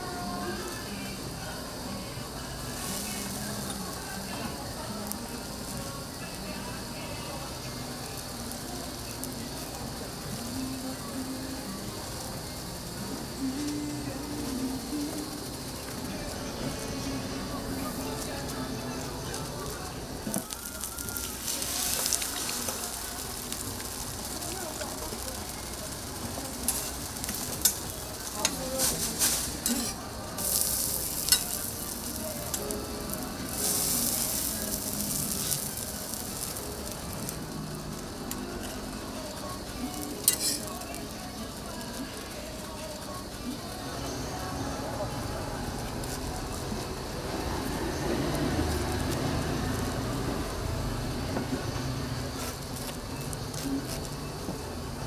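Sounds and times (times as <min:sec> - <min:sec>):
food sizzling on griddle: 0:00.0 - 0:55.0.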